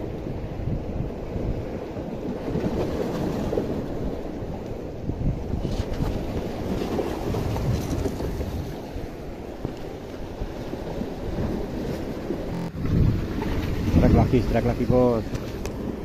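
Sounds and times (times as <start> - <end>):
wind on microphone: 0.0 - 9.0, 9.6 - 16.0
sea waves washing against rocks: 0.0 - 16.0.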